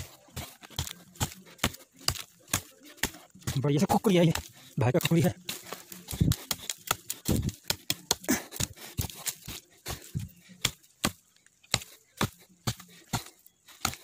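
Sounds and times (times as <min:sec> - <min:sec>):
blade chopping sapling: 0:00.0 - 0:14.0.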